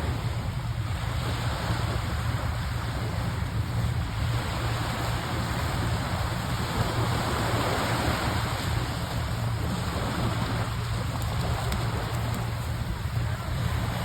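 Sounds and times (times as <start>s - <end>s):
water washing on shore: 0.0s - 14.0s
wind rumbling on microphone: 0.0s - 14.0s.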